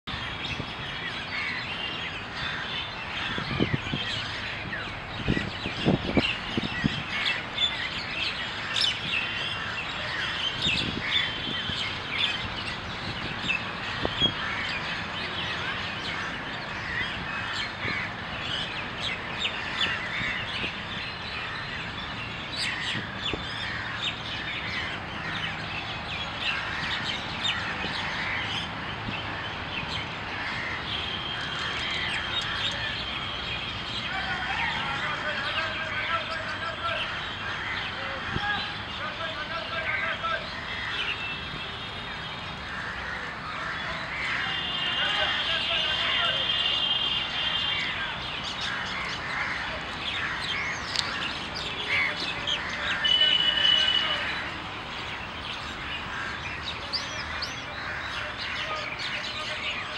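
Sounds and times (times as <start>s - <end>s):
chorus of birds chirping: 0.0s - 59.9s.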